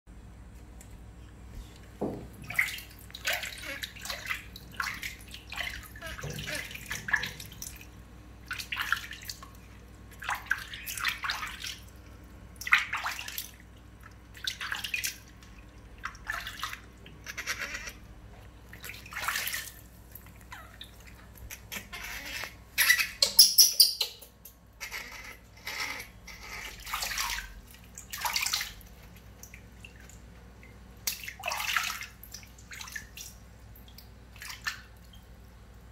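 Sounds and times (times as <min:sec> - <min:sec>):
water splashing in a basin: 0:01.9 - 0:23.3, 0:24.9 - 0:35.9.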